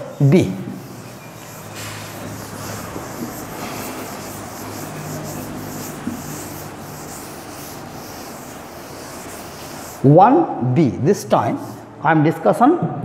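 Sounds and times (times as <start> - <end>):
duster rubbing on chalkboard: 0.0 - 10.4, 11.2 - 11.9.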